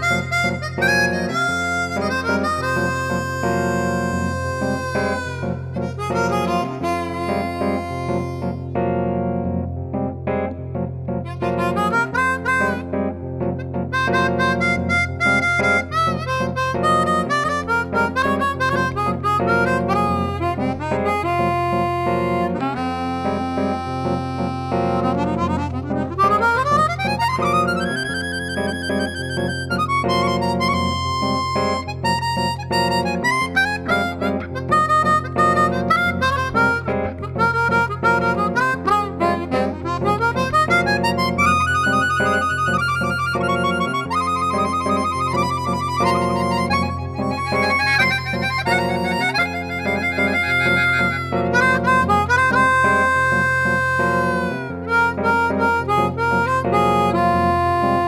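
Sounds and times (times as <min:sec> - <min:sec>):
bass and chordal accompaniment: 0:00.0 - 0:58.0
harmonica melody: 0:00.0 - 0:58.0.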